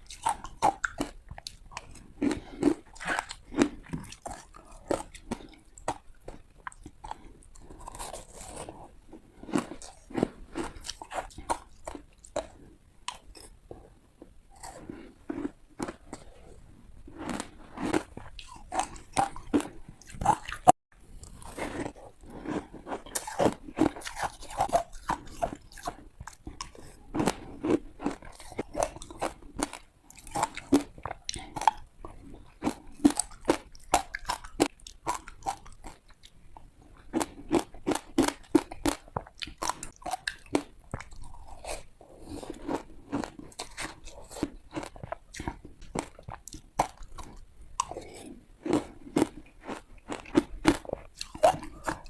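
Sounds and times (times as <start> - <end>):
ice being chewed: 0.0 - 52.0.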